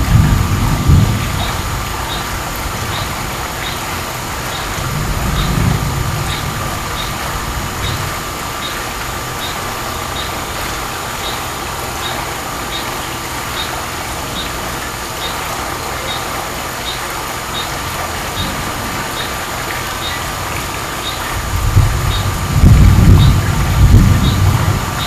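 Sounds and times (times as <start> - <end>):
low thunder rumble and hiss: 0.0 - 25.0.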